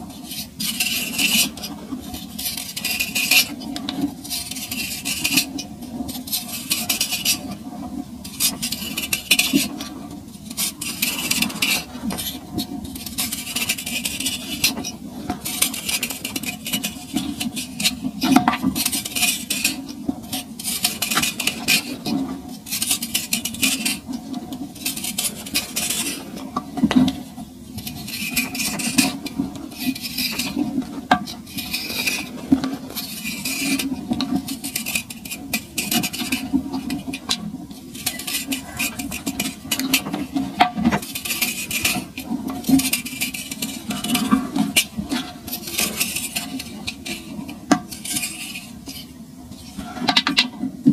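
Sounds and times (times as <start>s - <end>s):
knife scraping dried sand: 0.2s - 7.5s, 8.3s - 9.8s, 10.5s - 27.2s, 27.8s - 50.3s.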